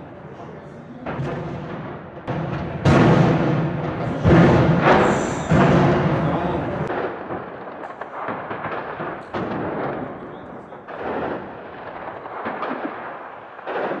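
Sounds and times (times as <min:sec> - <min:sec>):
gunfire bangs echoing: 0:00.0 - 0:14.0
loud explosion rumbling: 0:00.0 - 0:14.0.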